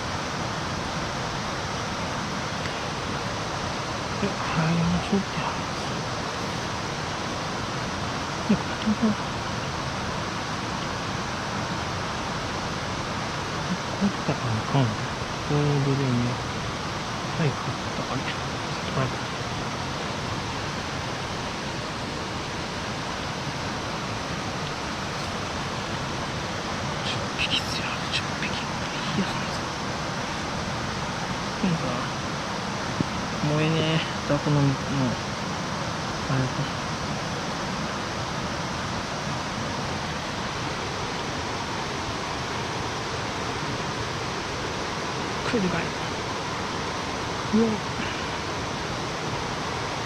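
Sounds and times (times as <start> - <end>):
mountain stream rushing: 0.0 - 50.0.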